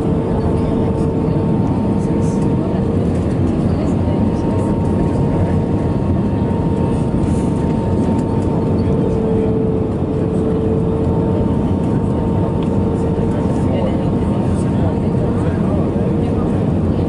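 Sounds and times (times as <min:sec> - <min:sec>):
jet engine noise in cabin: 0:00.0 - 0:17.0.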